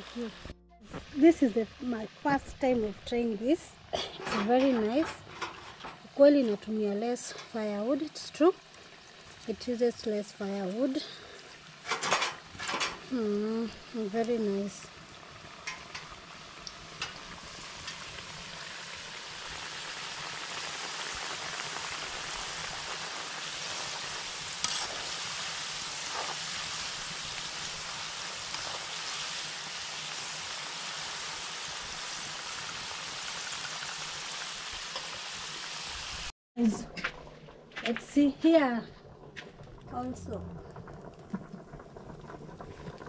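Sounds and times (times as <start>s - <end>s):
chips sizzling in hot oil: 0.0s - 36.3s.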